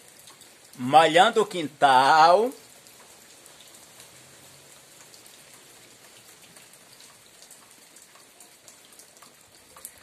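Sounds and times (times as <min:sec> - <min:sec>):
light rain on dirt: 0:00.0 - 0:10.0.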